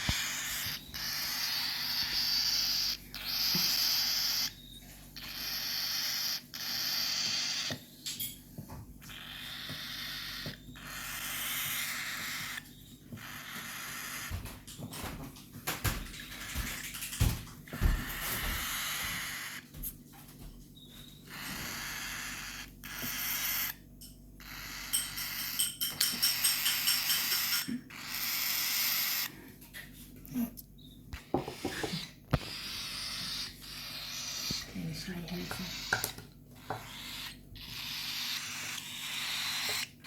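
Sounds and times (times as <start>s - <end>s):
baby birds cheeping: 0.0s - 19.9s, 20.6s - 40.0s.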